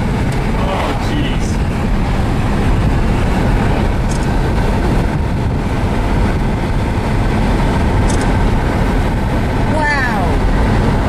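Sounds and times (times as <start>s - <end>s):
vehicle road and wind noise: 0.0s - 11.0s.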